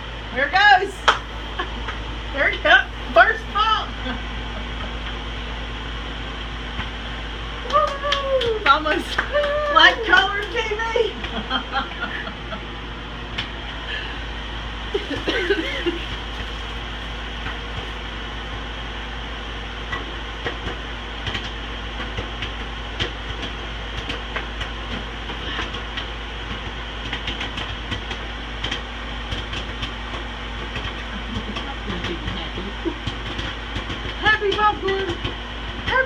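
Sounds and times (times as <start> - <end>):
microwave oven humming: 0.0 - 36.0
popcorn popping: 6.4 - 36.0.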